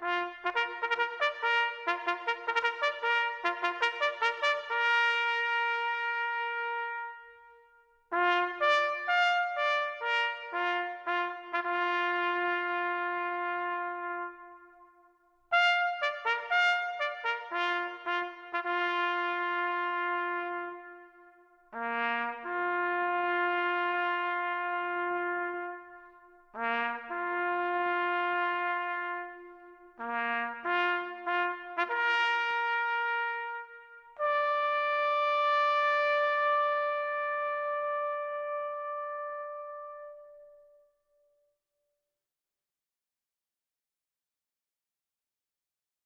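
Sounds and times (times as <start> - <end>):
solo bugle call: 0.0 - 40.8.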